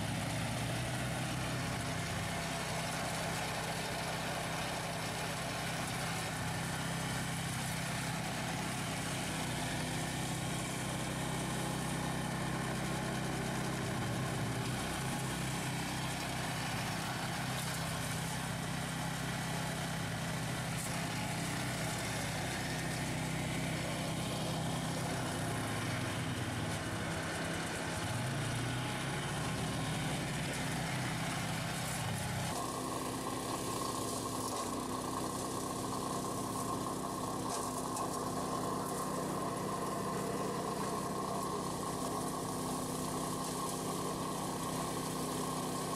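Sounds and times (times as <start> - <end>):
mower engine cutting grass: 0.0 - 45.9
quad bike engine: 0.0 - 45.9.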